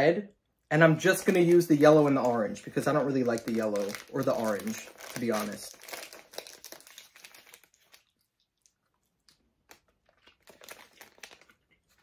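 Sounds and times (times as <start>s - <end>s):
plastic bag crinkling: 0.9s - 12.0s.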